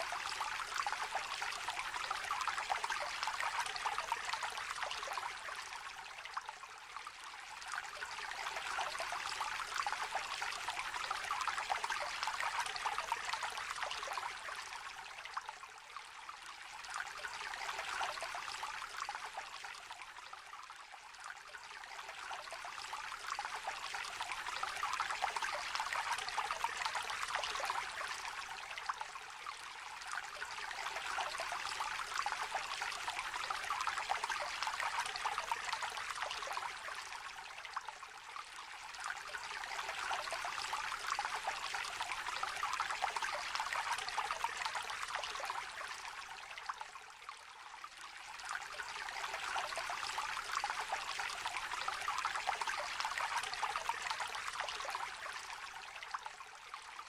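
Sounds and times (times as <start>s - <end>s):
river trickling and babbling: 0.0s - 57.0s.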